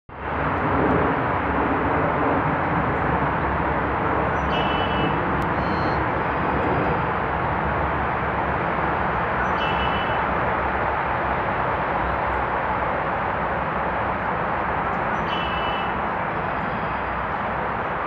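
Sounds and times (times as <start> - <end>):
road traffic roar: 0.1 - 18.0.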